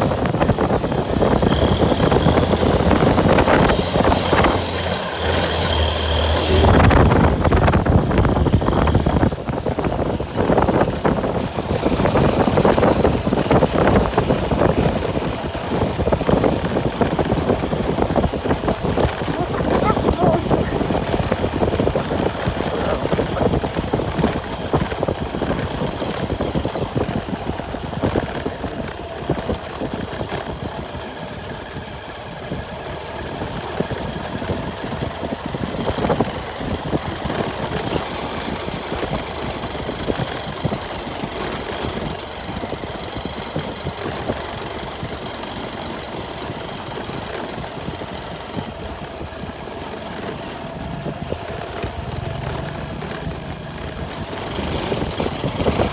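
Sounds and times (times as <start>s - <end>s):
vehicle engine running: 0.0s - 55.9s
small knocks and rattles: 0.4s - 55.9s.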